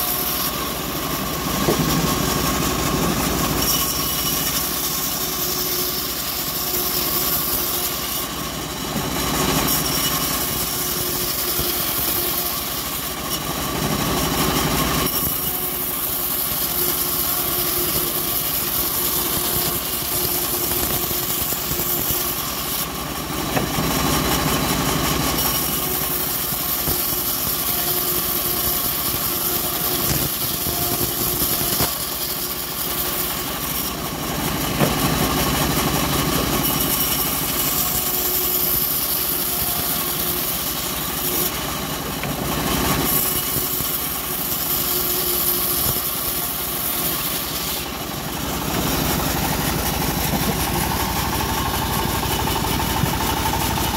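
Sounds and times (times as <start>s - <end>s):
bandsaw mill running: 0.0s - 53.9s
blade cutting wood hiss: 0.0s - 53.9s.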